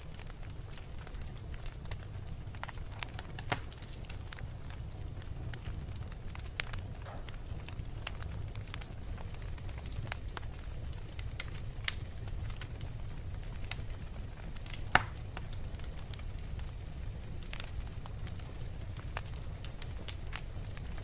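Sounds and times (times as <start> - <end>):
wood fire crackling in fireplace: 0.0 - 21.0.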